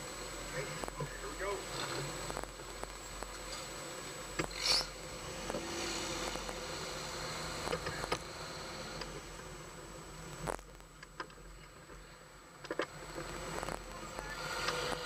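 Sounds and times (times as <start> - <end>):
muffled car running: 0.0 - 15.0.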